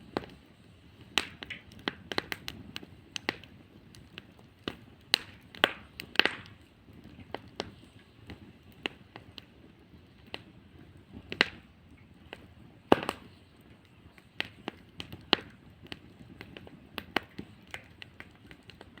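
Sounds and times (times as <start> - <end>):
wood bonfire crackling: 0.0 - 19.0
sharp pops and snaps: 1.0 - 10.5, 11.1 - 19.0.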